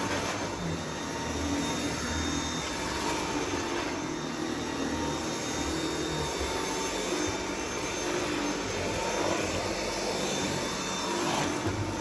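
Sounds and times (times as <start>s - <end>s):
cordless vacuum running: 0.0s - 12.0s.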